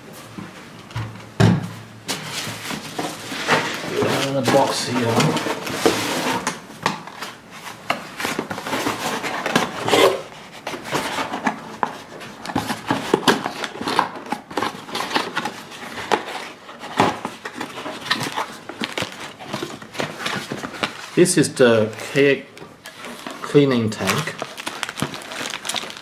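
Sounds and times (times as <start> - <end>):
packaging rustling: 2.1 - 26.0.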